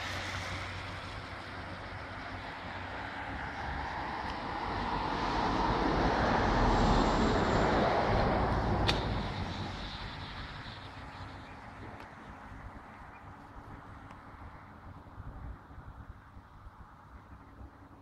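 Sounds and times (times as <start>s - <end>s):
vehicle passing on wet asphalt: 0.0s - 16.6s.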